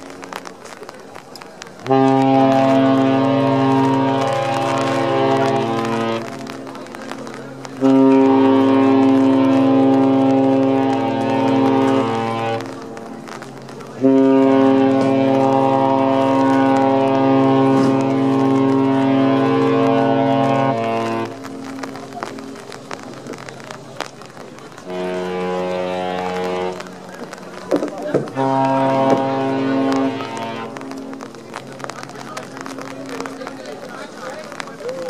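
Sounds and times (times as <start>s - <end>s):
deep ship horn blasts: 1.8s - 24.0s, 24.7s - 33.9s.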